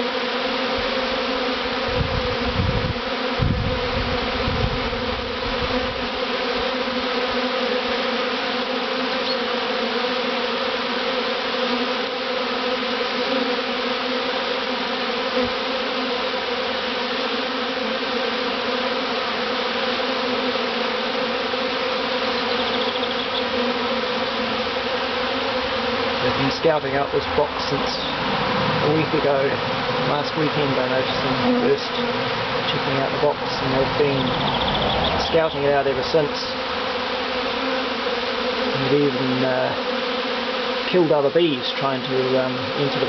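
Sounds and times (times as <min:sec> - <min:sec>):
bee swarm buzzing: 0:00.0 - 0:43.0.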